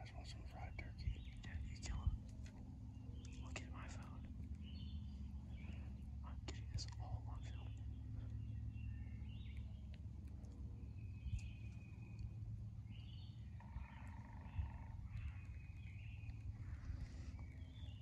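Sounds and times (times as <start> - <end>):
birds calling: 0.0 - 18.0
steady low rumble: 0.0 - 18.0.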